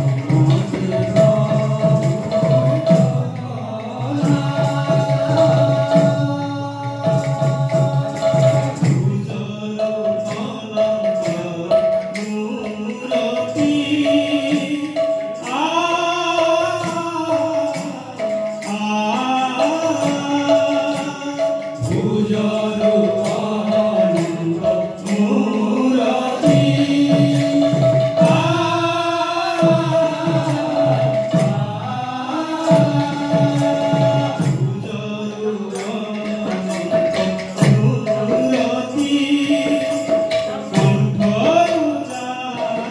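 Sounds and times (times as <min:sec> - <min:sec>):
jingling hand percussion: 0:00.0 - 0:42.9
voices singing devotional chant: 0:00.0 - 0:42.9.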